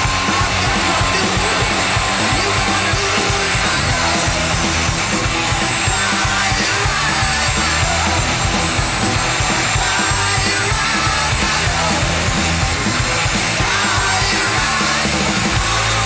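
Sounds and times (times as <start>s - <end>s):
rock music with steady beat: 0.0s - 16.0s.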